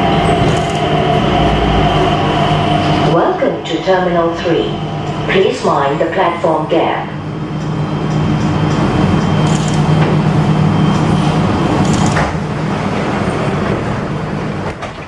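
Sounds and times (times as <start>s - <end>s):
train cabin hum: 0.0s - 15.0s.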